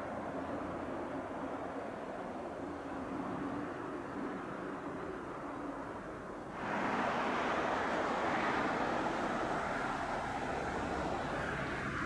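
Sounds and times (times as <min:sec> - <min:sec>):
distant traffic rushing: 0:00.0 - 0:12.0.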